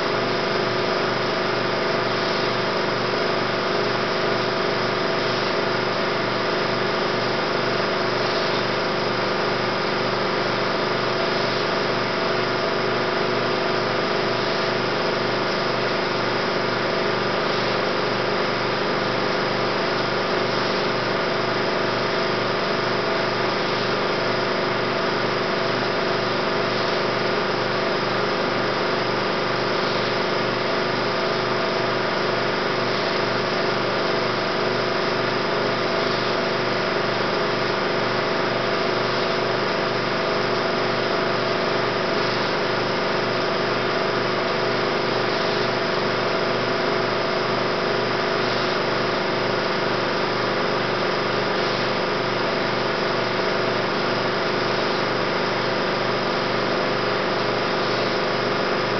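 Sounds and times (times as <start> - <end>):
film projector whirring: 0.0 - 58.9.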